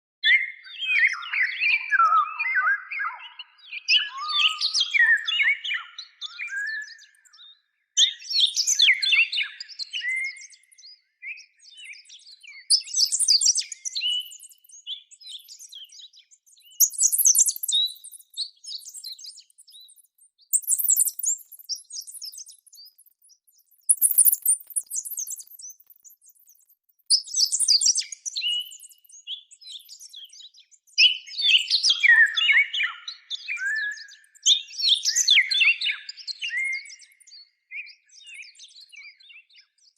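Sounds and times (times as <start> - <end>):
songbird twittering chirps: 0.2 - 39.9.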